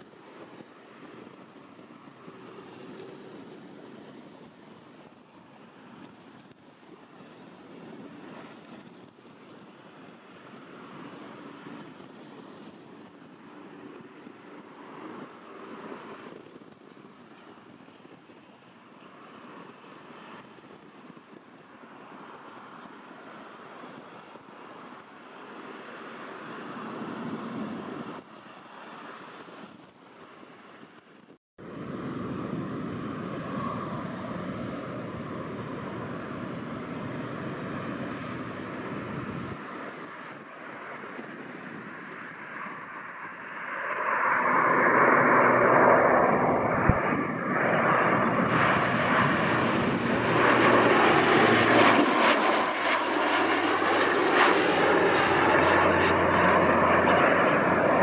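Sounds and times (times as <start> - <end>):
airliner engines droning: 0.0 - 31.0, 31.6 - 58.0.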